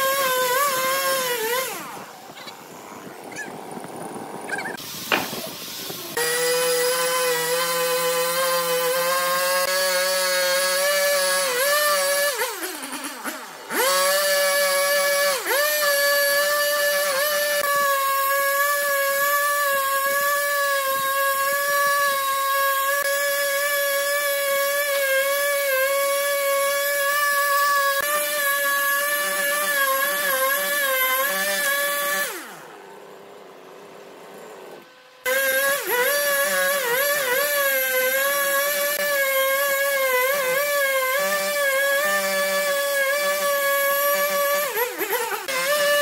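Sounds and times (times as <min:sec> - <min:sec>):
chainsaw cutting log: 0:00.0 - 0:46.0.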